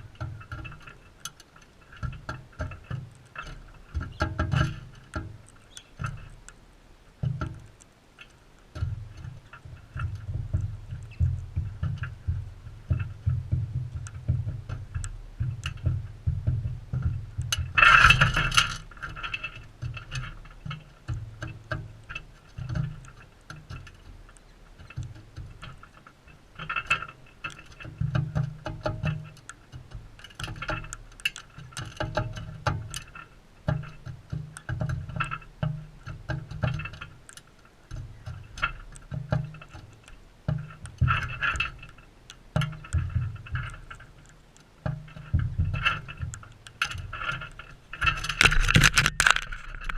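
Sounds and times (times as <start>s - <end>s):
birds feeding clicks and cracks: 0.0s - 49.9s.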